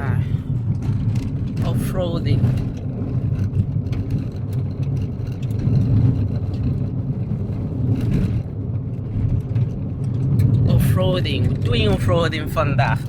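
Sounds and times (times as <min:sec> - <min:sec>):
tyres and engine rumble: 0:00.0 - 0:13.0
gravel ticks: 0:00.6 - 0:13.0.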